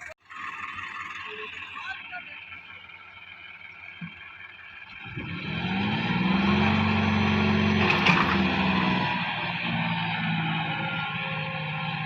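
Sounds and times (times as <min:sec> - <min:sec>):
tractor diesel engine revving: 0:00.0 - 0:12.0.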